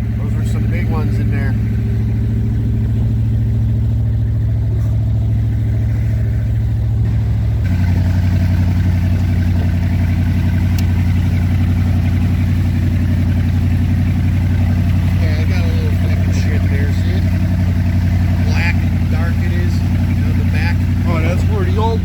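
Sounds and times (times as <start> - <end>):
powerboat engine running: 0.0 - 22.0.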